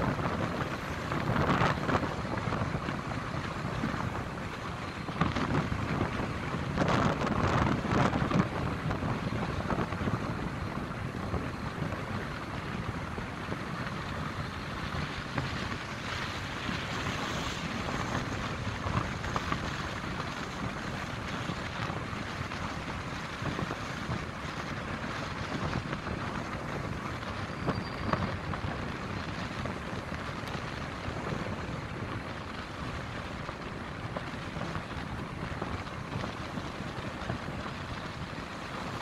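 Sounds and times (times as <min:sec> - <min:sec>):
wind rushing in snowstorm: 0:00.0 - 0:39.0.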